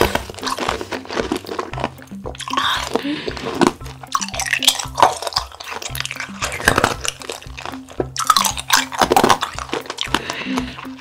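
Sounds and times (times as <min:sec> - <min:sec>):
background music with bass line: 0:00.0 - 0:11.0
chewing: 0:00.0 - 0:11.0
plastic ladle scooping punch and ice: 0:00.0 - 0:11.0.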